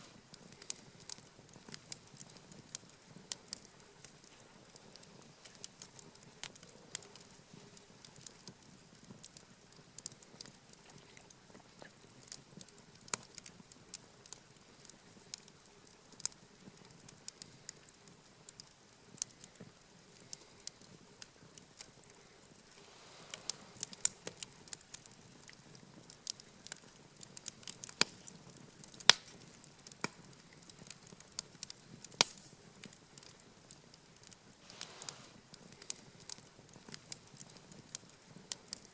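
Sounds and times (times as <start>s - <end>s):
wood campfire crackling and popping: 0.0s - 38.9s.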